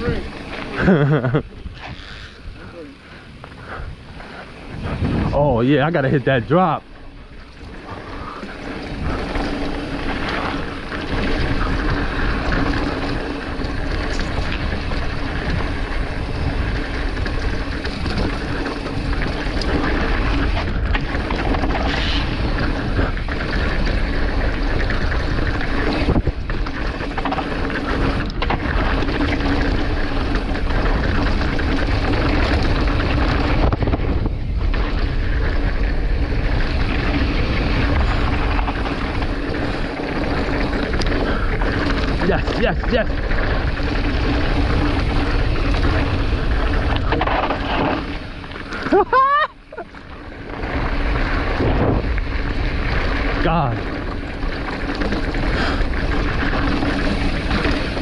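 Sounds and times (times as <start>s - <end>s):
low rumble of bike riding: 0.0s - 58.0s
wind rush on microphone: 0.0s - 58.0s.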